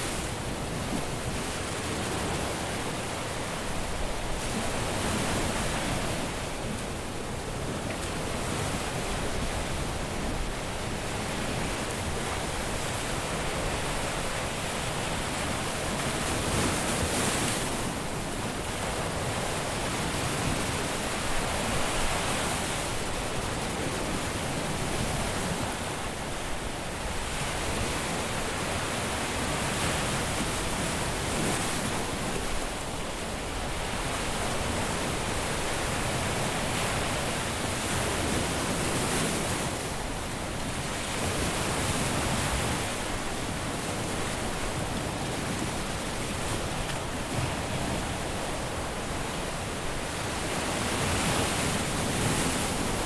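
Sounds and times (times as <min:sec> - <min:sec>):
waves breaking on beach: 0:00.0 - 0:53.0.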